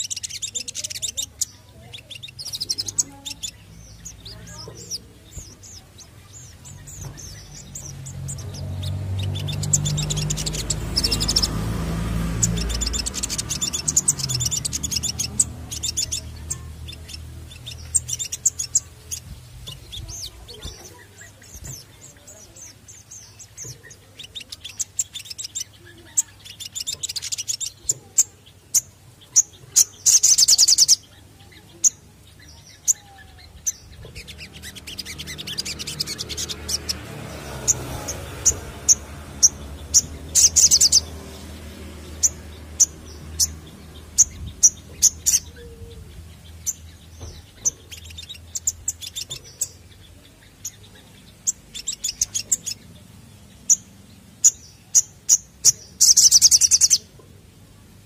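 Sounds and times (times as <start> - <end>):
bird chirping and twittering: 0.0 - 58.0.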